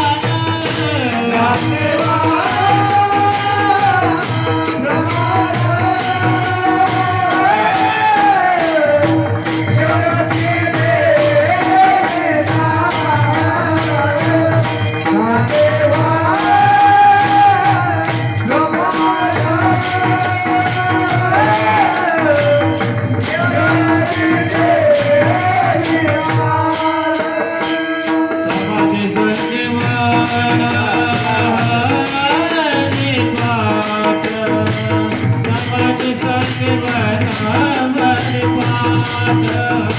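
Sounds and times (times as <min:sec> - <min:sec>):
jingling metal percussion: 0:00.0 - 0:39.9
man singing devotional melody: 0:00.0 - 0:39.9.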